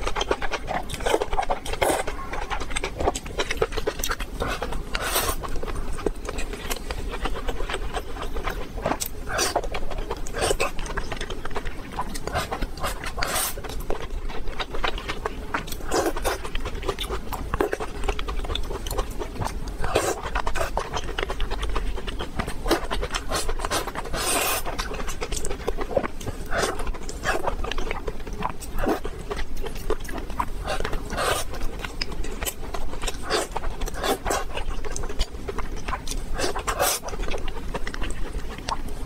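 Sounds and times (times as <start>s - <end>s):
wet chewing and lip smacks: 0.0s - 39.0s.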